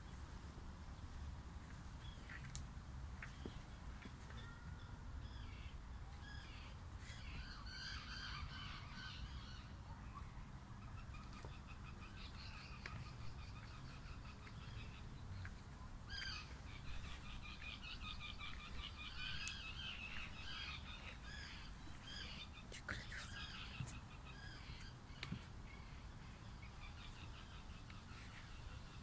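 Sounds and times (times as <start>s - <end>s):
birds calling: 1.0s - 29.0s.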